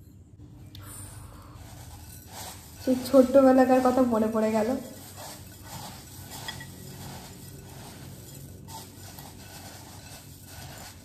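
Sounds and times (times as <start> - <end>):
puffed rice rustling and crunching: 0.9 - 11.0.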